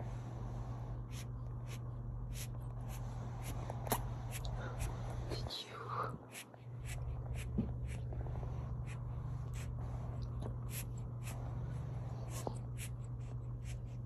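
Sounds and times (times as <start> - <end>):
kitten snuffling: 0.0 - 14.0
steady low hum: 0.0 - 14.0.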